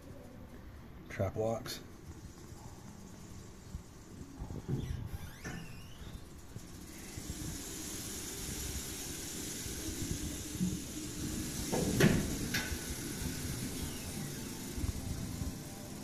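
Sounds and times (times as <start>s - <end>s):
room hiss: 0.0s - 16.0s.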